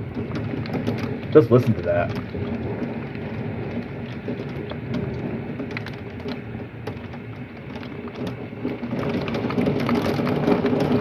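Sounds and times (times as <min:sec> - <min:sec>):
heavy rain hiss: 0:00.0 - 0:11.0
raindrops tapping hard surfaces: 0:00.0 - 0:11.0.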